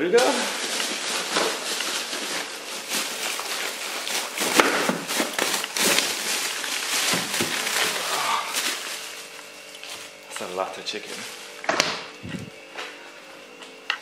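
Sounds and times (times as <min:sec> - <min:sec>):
plastic bags crinkling and rustling: 0:00.0 - 0:13.8.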